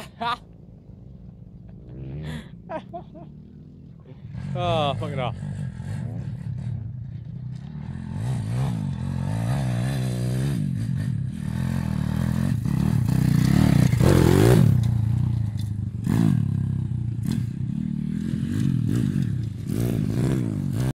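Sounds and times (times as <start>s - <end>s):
motorbike engine revving: 1.2s - 20.9s.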